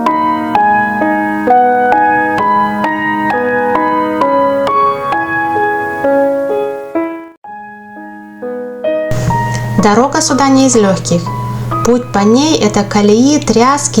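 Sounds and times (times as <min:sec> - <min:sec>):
calm piano melody: 0:00.0 - 0:14.0.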